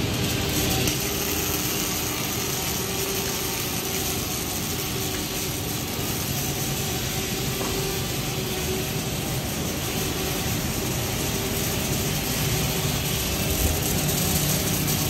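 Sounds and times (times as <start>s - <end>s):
machine hum: 0.0s - 15.0s
welding arc hiss: 0.0s - 15.0s.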